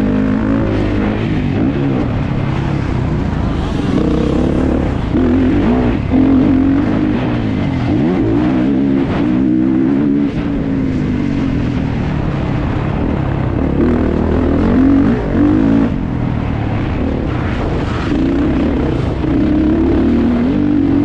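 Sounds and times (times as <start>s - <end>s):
motocross bike engine revving: 0.0s - 12.2s, 12.9s - 21.0s.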